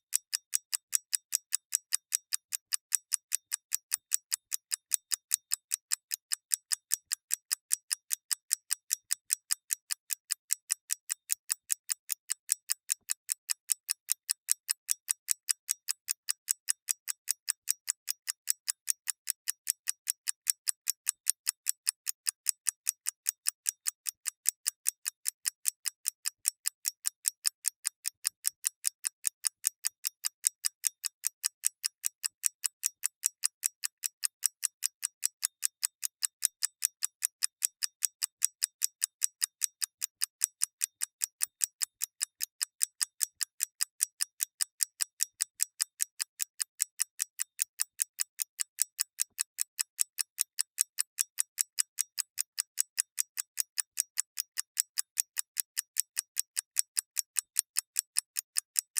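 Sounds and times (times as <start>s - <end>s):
mechanical clock ticking: 0.1s - 58.9s.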